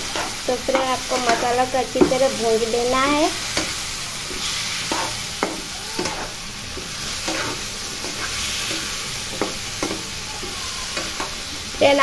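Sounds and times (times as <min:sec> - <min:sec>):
spatula scraping and knocking pan: 0:00.0 - 0:11.5
vegetables sizzling in a pan: 0:00.0 - 0:12.0.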